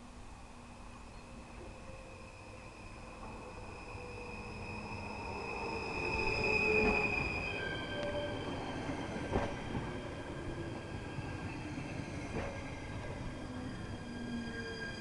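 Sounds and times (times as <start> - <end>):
electric train whine: 0.0 - 15.0
wheels rumbling on rail: 0.0 - 15.0.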